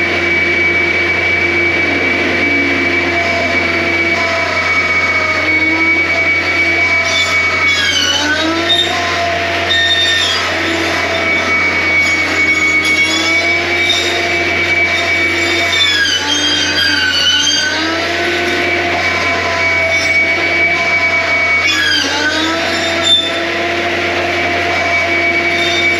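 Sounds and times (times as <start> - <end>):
high hydraulic whine: 0.0 - 25.9
track loader engine running: 0.0 - 25.9.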